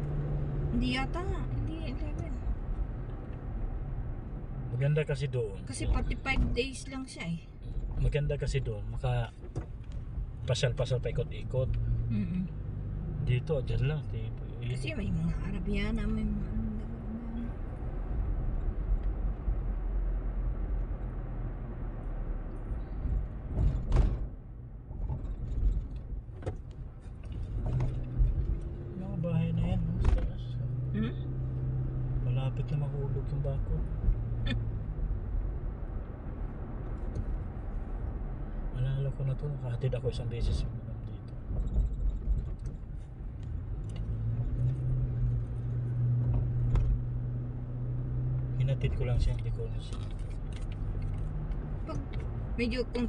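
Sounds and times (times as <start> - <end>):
car road noise rumble: 0.0 - 53.0.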